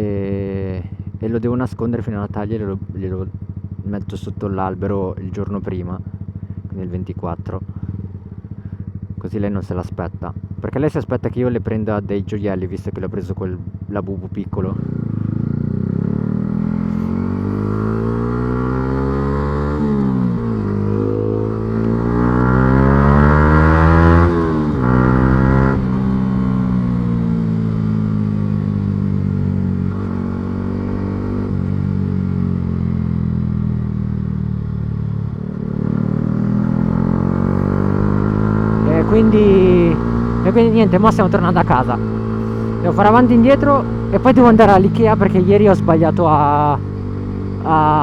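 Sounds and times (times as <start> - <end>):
motorcycle engine revving: 2.7 - 9.3, 13.5 - 48.0.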